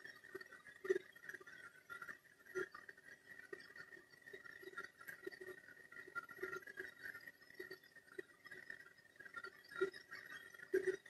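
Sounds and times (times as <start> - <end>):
faint ticks: 0.0 - 11.0.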